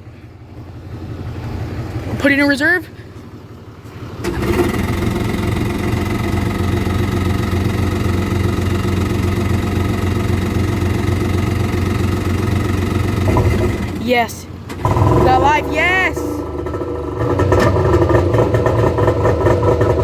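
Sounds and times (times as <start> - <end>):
jet ski engine idling: 0.0 - 20.0.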